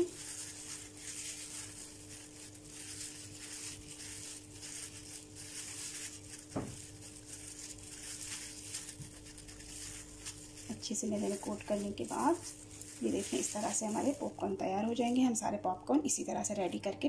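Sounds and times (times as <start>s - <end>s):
soft rustling of flour coating: 0.0s - 17.0s
steady low hum: 0.0s - 17.0s.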